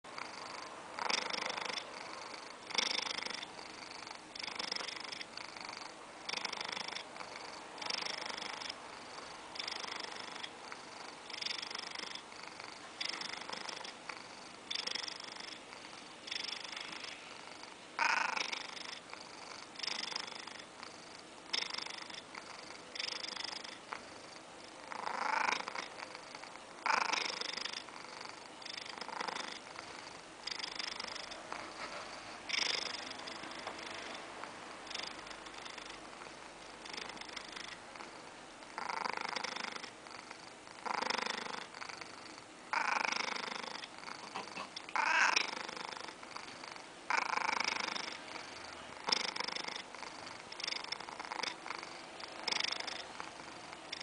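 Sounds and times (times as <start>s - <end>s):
cat purring loudly: 0.1s - 54.0s.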